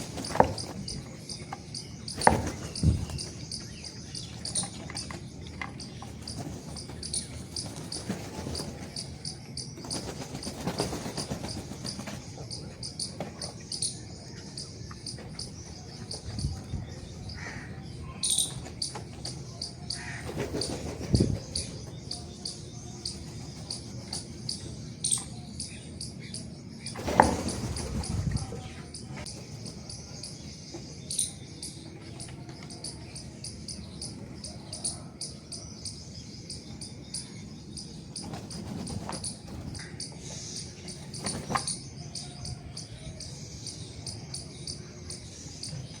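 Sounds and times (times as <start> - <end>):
sparrows chirping: 0.0 - 46.0.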